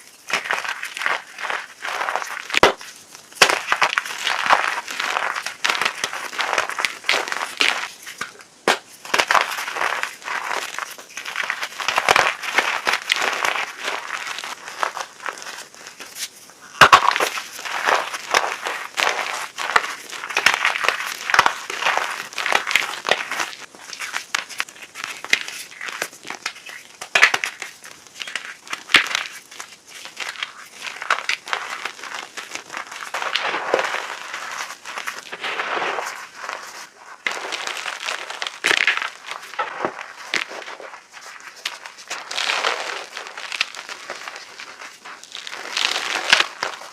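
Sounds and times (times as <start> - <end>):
chalk crunching and crumbling: 0.0 - 46.9.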